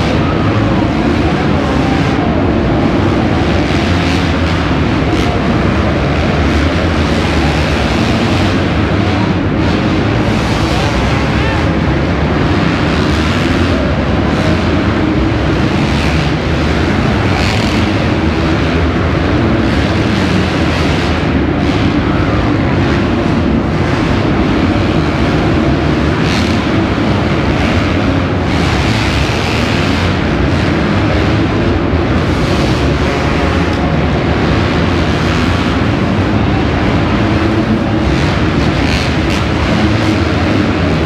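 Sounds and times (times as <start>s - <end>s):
motocross bike engines revving: 0.0s - 41.0s.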